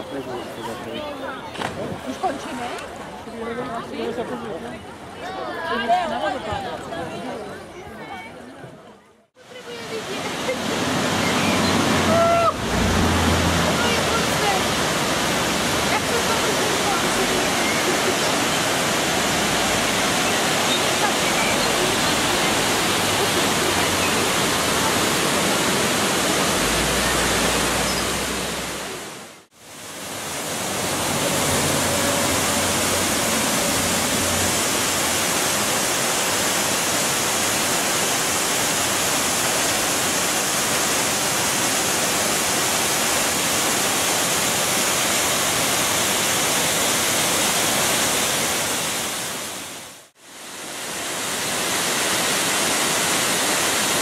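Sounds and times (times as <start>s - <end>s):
waterfalls rushing: 9.4s - 54.0s.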